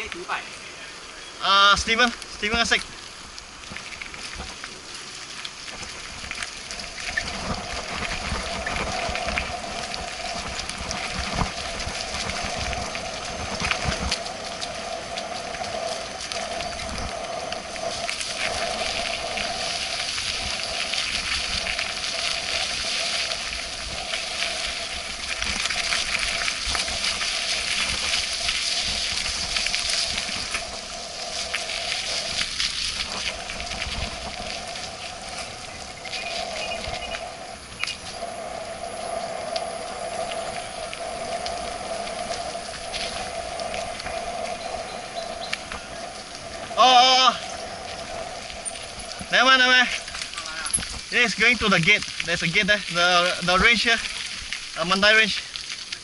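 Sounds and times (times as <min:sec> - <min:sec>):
bike tyre rumble: 0:00.0 - 0:56.0
wind noise on microphone: 0:01.5 - 0:55.5.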